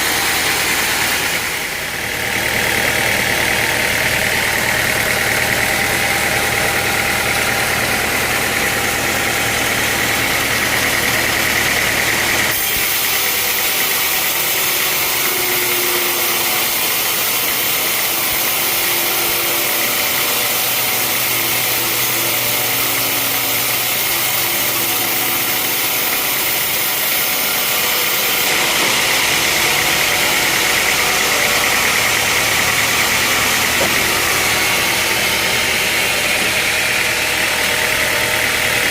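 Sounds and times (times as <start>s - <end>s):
sawmill engine hum: 0.0s - 38.9s.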